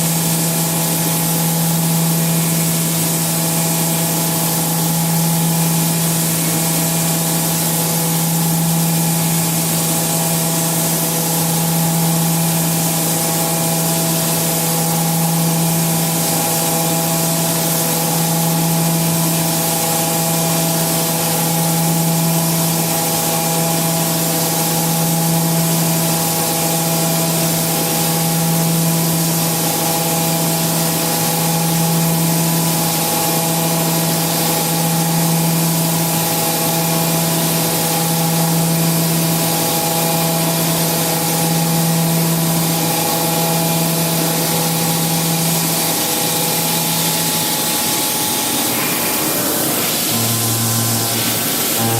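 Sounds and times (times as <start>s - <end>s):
milling machine hum: 0.0s - 51.9s
coolant spray hiss: 0.1s - 51.9s.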